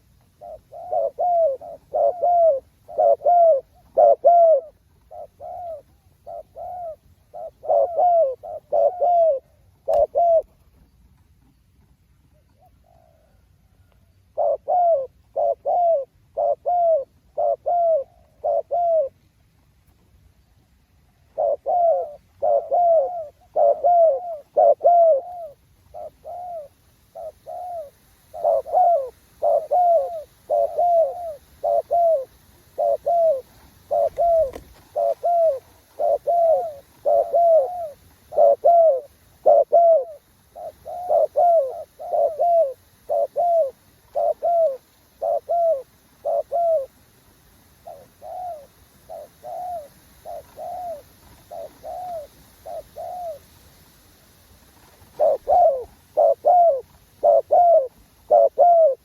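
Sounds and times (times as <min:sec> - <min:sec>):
dove cooing: 0:00.0 - 0:10.9, 0:12.3 - 0:19.3, 0:21.1 - 0:47.0, 0:47.8 - 0:53.6, 0:54.7 - 0:59.0.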